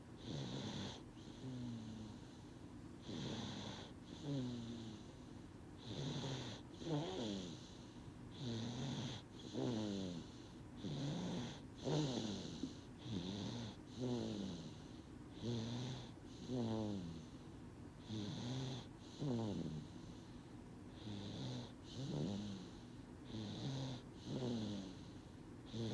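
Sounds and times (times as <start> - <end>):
baby snoring: 0.2 - 5.2, 5.8 - 17.4, 18.0 - 20.2, 20.9 - 25.9.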